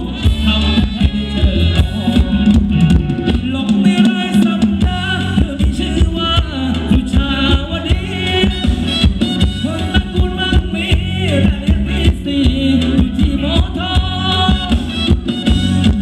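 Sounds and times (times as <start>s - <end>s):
live dance band music: 0.0s - 16.0s
thumping bass drum: 0.0s - 16.0s.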